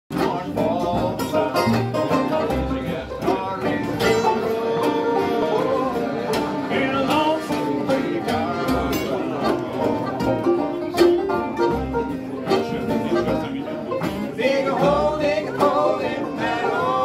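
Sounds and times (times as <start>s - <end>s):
acoustic guitars: 0.1s - 17.0s
banjo picking rolling notes: 0.1s - 17.0s
mandolins: 0.1s - 17.0s
plucked upright bass: 0.1s - 17.0s.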